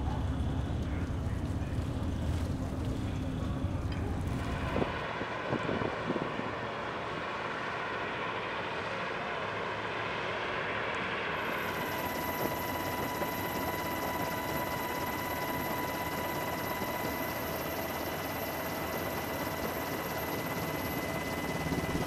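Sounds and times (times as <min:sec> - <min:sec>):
engine drone with high whine: 0:00.0 - 0:22.0.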